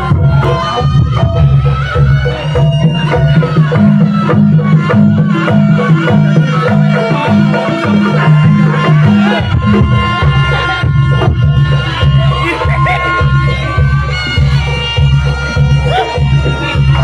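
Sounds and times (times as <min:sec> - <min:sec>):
folk music with drums: 0:00.0 - 0:17.0.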